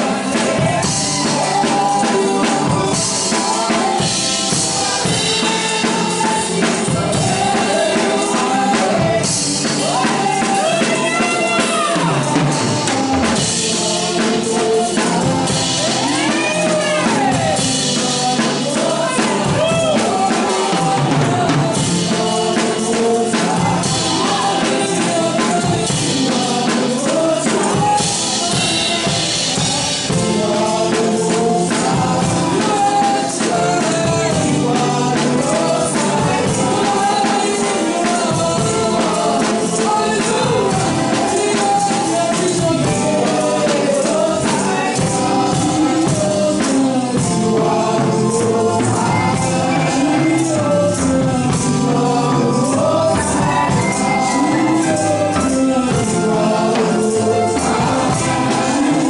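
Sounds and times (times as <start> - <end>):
bass guitar: 0.0 - 59.0
drum kit beat: 0.0 - 59.0
keyboard: 0.0 - 59.0
voices singing: 0.0 - 59.0.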